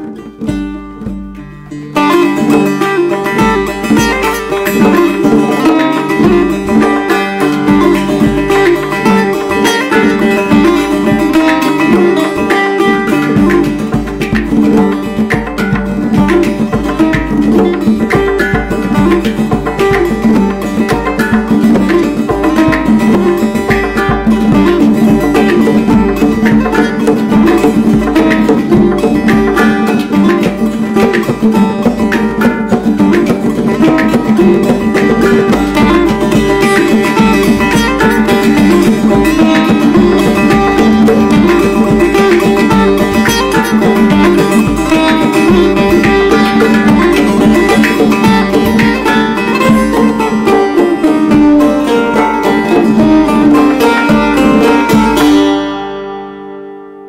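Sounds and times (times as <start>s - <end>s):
hand drum strokes: 0.0s - 56.4s
handpan ringing notes: 0.0s - 57.0s
plucked lute melody: 0.0s - 57.0s.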